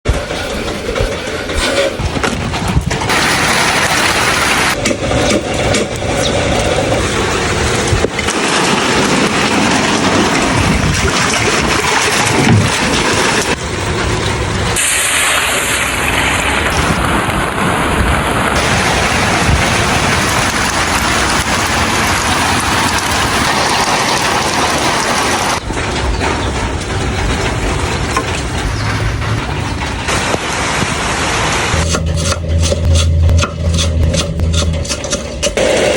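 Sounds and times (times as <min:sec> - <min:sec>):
heavy rain falling: 0:00.1 - 0:32.2.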